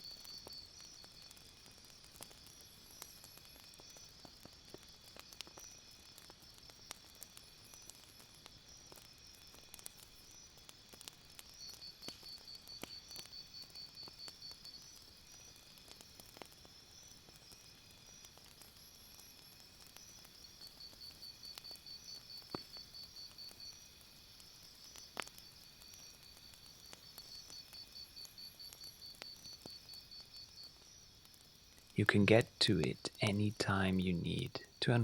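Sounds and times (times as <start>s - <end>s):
campfire crackling: 0.0s - 35.0s.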